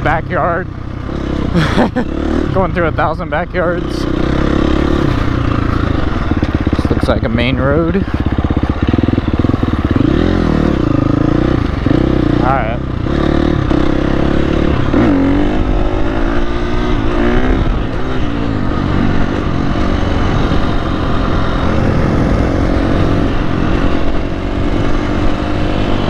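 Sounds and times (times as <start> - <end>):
dirt bike engine shifting gears: 0.0 - 26.0.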